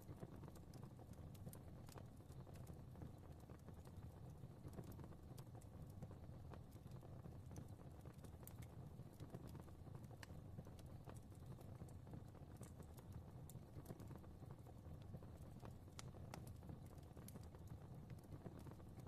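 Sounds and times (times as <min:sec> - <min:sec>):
fire crackling and popping: 0:00.0 - 0:19.0
low rumble of flame: 0:00.0 - 0:19.0.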